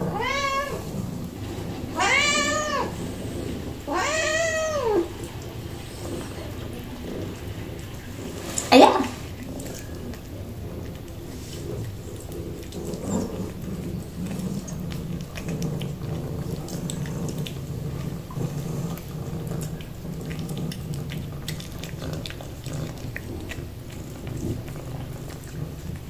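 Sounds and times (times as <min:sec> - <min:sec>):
cat chewing and licking: 0:00.0 - 0:26.0
cat purring: 0:00.0 - 0:26.0.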